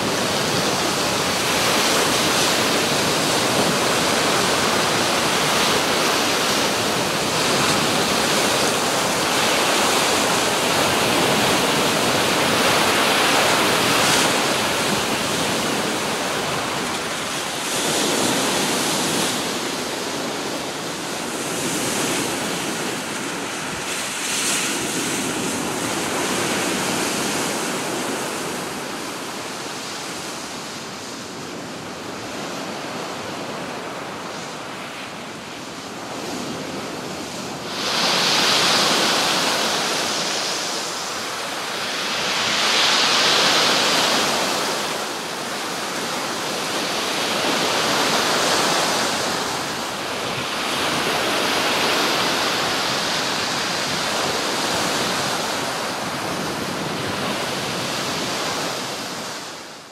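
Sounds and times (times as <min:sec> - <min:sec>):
strong wind: 0:00.0 - 0:59.9.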